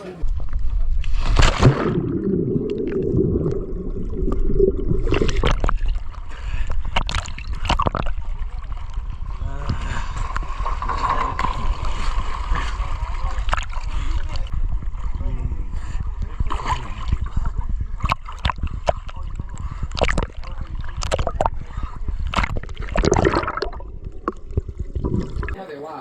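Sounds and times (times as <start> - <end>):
steady low rumble: 0.2 - 25.6
water sloshing against boat: 0.7 - 25.6.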